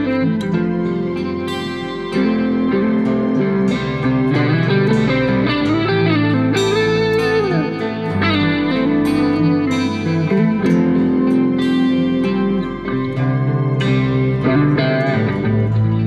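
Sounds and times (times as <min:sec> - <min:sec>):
plucked guitar melody: 0:00.0 - 0:16.0
sustained chords: 0:00.0 - 0:16.0.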